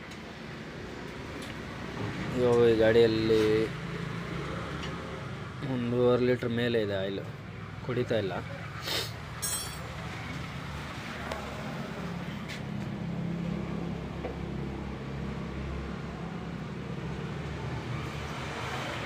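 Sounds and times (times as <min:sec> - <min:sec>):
low rumble of vehicle noise: 0:00.0 - 0:19.0.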